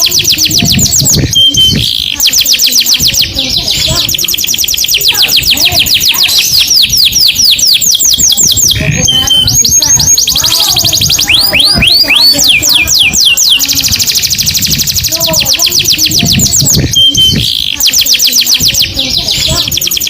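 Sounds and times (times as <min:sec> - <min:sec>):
canary singing fast trills: 0:00.0 - 0:20.0.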